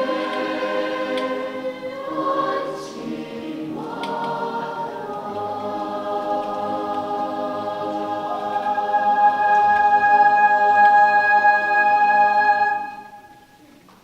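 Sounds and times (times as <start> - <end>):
choir holding a chord: 0.0 - 13.3.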